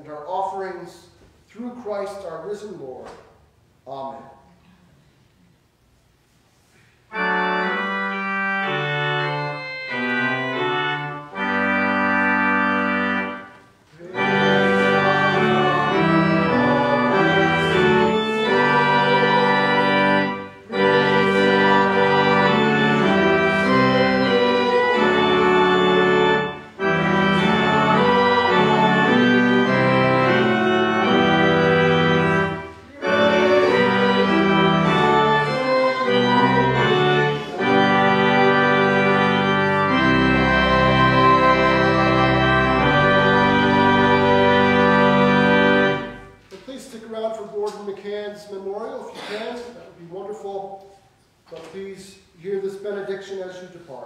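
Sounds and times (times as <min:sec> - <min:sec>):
church organ playing chords: 0:07.1 - 0:50.5.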